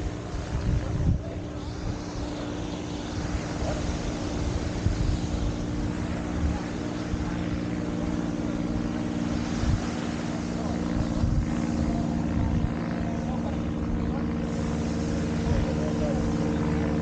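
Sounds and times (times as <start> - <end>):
engine drone: 0.0 - 17.0
wind buffeting microphone: 0.0 - 17.0.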